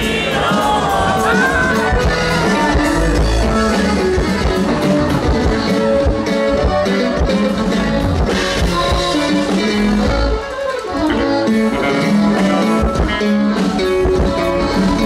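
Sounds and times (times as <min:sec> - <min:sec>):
accordion: 0:00.0 - 0:15.0
bajo sexto guitar: 0:00.0 - 0:15.0
drum kit: 0:00.0 - 0:15.0.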